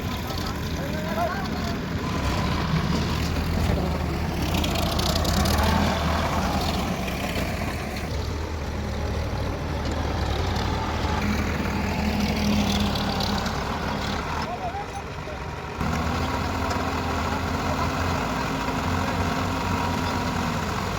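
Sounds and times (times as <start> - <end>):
diesel machinery engine running: 0.0 - 20.9.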